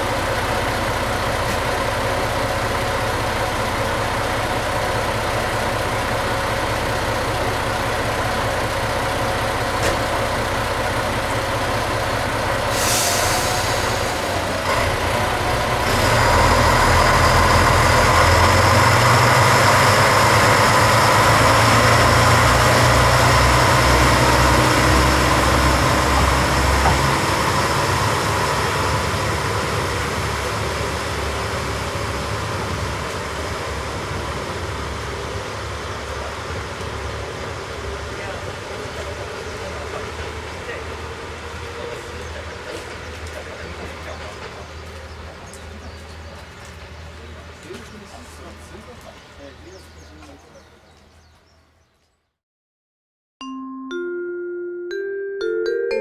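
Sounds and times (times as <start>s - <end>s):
diesel railcar engines: 0.0s - 52.0s.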